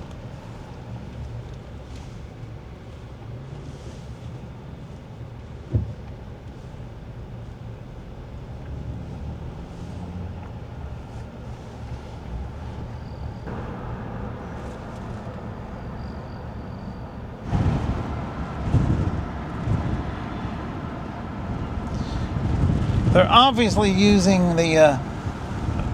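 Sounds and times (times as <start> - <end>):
car engine and road rumble: 0.0 - 25.9.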